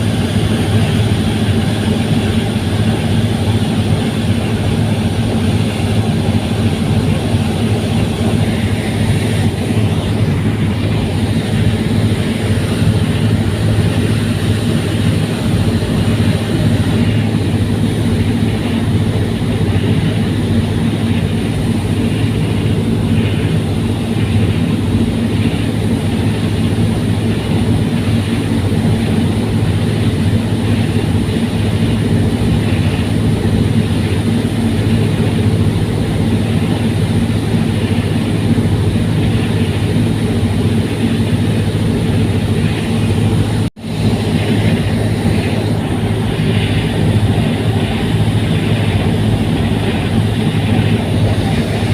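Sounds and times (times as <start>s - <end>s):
ferry engines deep hum: 0.0s - 51.9s.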